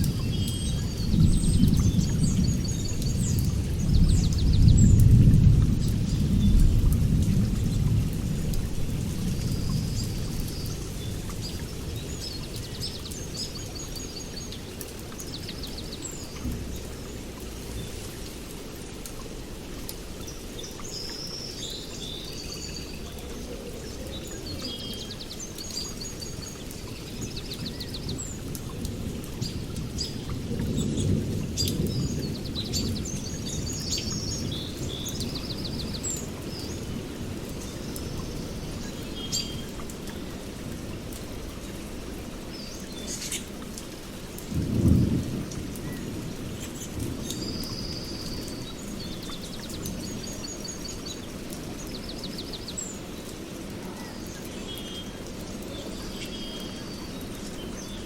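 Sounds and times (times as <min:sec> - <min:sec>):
running water rushing: 0:00.0 - 0:58.0
songbirds trilling: 0:00.0 - 0:58.0.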